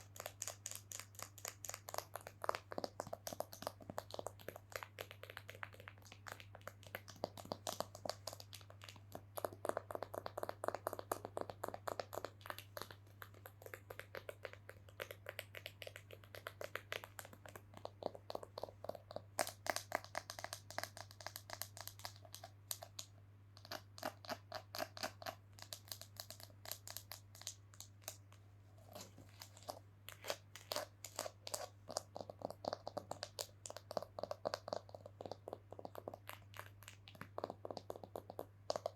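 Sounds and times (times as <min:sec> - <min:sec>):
rapid tapping on an object: 0:00.0 - 0:28.3, 0:30.4 - 0:38.9.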